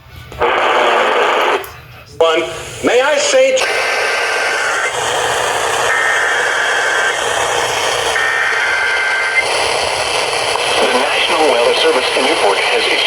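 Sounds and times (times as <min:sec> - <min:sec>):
radio static: 0:00.3 - 0:13.0.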